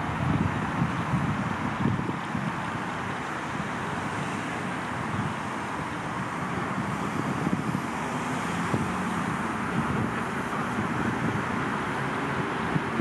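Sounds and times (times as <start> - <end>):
distant road traffic: 0.0 - 13.0
wind buffeting microphone: 0.0 - 13.0.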